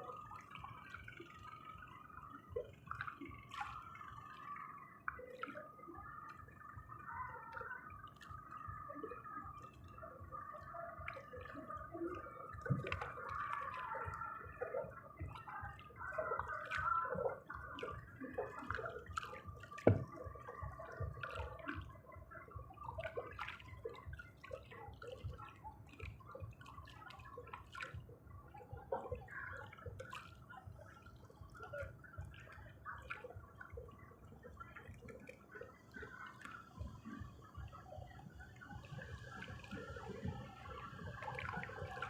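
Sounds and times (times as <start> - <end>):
water dripping and gurgling: 0.0 - 42.0.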